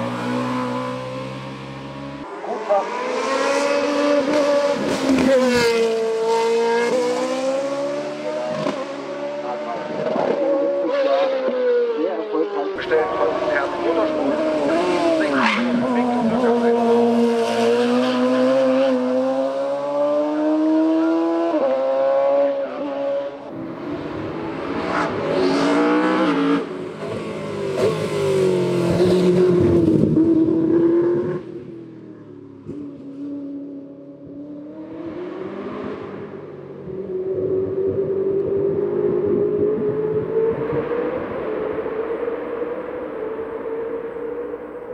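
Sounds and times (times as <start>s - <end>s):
racing car engine at high revs: 0.0s - 44.9s.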